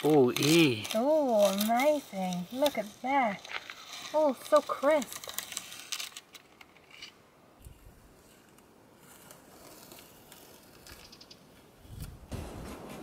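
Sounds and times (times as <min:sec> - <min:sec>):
masking tape peeled and scrunched: 0:00.0 - 0:12.2
tape strips tearing: 0:00.0 - 0:12.2.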